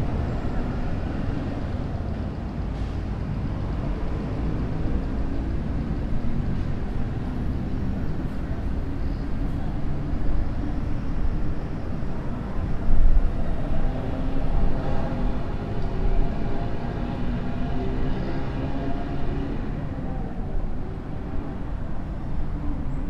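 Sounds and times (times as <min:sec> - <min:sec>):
passing car and bus engines: 0:00.0 - 0:23.0.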